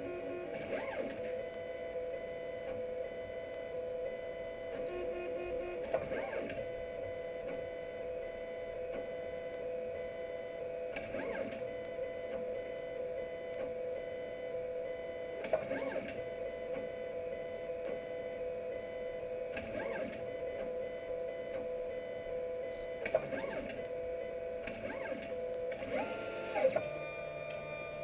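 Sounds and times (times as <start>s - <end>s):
printer stepper motors whining: 0.0s - 28.0s.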